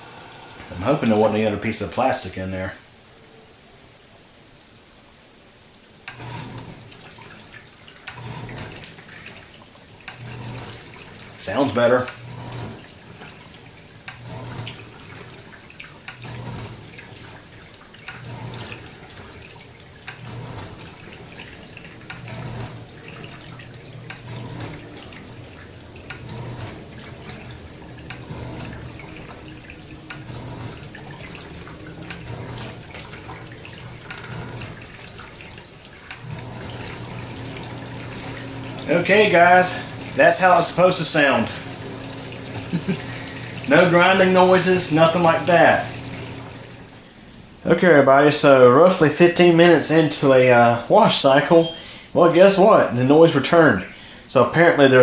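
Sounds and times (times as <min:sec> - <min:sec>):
low pump hum: 0:00.0 - 0:02.4, 0:06.0 - 0:55.0
water spraying inside dishwasher: 0:00.0 - 0:02.8, 0:06.0 - 0:55.0.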